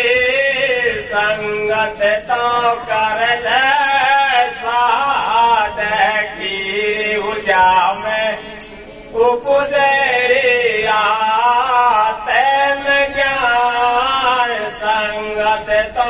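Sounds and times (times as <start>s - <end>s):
men singing devotional song: 0.0s - 16.0s.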